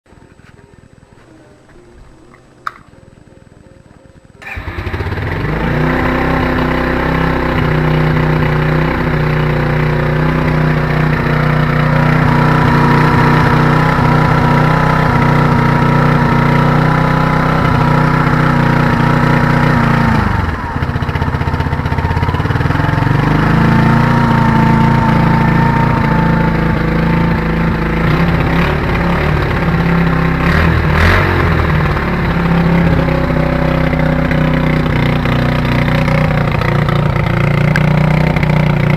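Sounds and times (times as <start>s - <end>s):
motorcycle engine revving: 4.2s - 38.9s.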